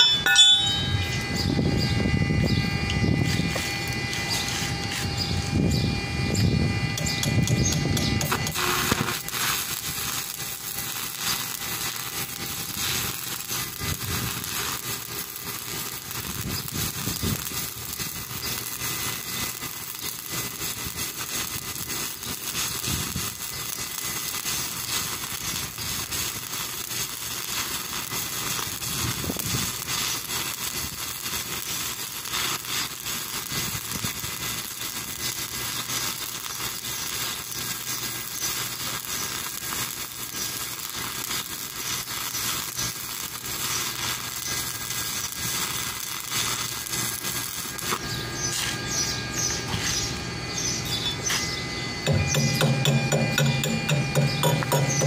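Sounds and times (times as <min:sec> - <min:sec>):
welding arc crackling and hissing: 0:00.0 - 0:55.0.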